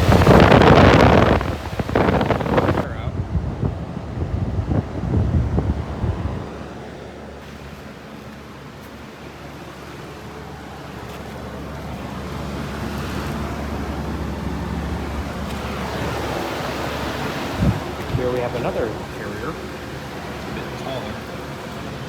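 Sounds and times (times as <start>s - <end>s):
fan air whoosh: 0.0s - 22.0s.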